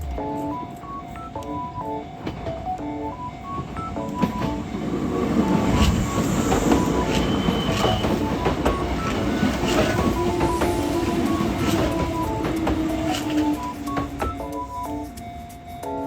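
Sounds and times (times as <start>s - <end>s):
background music melody: 0.0s - 16.0s
train wheels rumbling and clacking: 1.6s - 16.0s.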